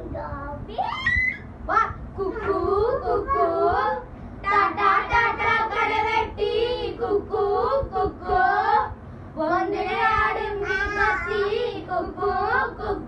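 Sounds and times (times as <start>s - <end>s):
boys singing together: 2.2s - 13.0s.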